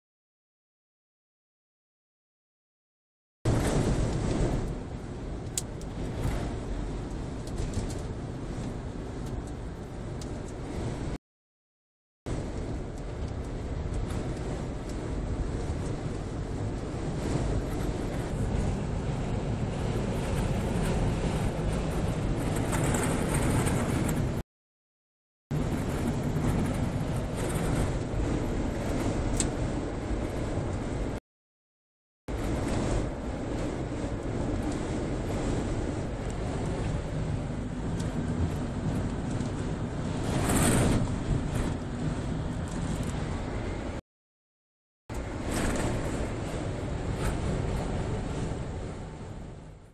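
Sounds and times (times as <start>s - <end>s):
road and wind noise in car: 3.5s - 11.2s, 12.3s - 24.4s, 25.5s - 31.2s, 32.3s - 44.0s, 45.1s - 49.9s.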